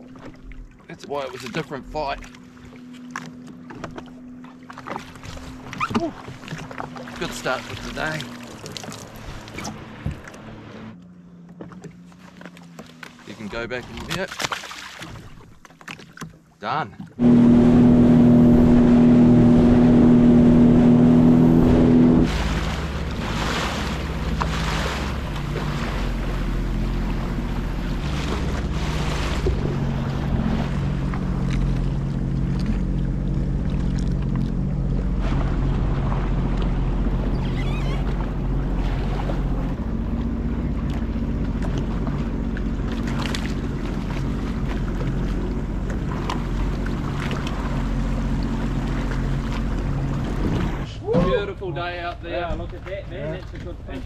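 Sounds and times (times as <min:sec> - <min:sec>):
watercraft engine idling: 0:00.0 - 0:14.3, 0:16.3 - 0:54.0
water noise: 0:00.0 - 0:54.0.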